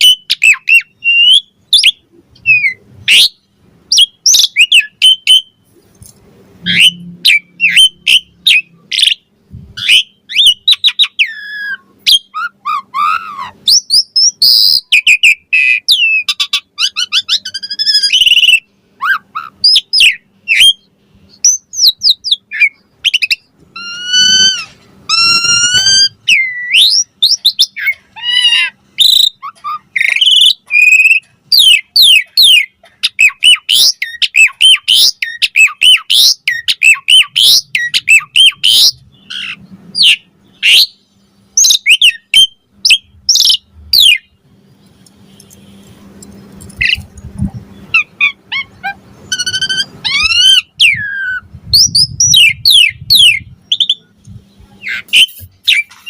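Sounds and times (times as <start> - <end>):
starling singing: 0.0 - 5.7, 6.6 - 45.5, 46.2 - 56.0.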